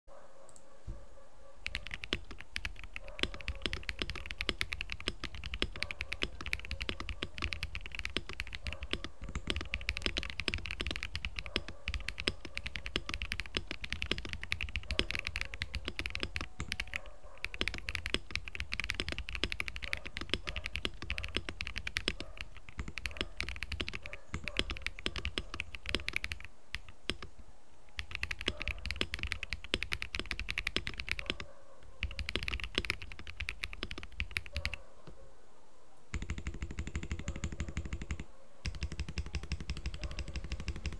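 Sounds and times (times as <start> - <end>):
mechanical keyboard typing: 1.6 - 34.8, 36.1 - 40.9.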